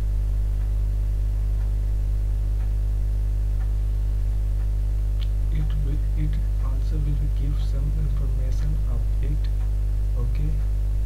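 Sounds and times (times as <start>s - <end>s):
buzzy mains hum: 0.0s - 11.0s.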